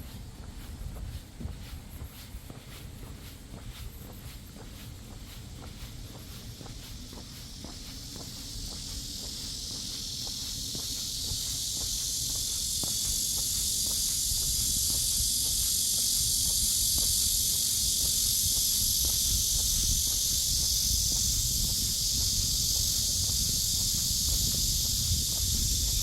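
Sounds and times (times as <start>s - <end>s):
cicadas droning: 0.0s - 26.0s
faint footsteps on path: 0.0s - 26.0s.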